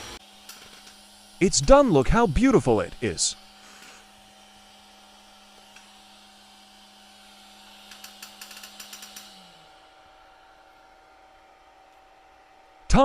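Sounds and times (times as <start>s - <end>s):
three d printer humming: 0.0s - 13.0s.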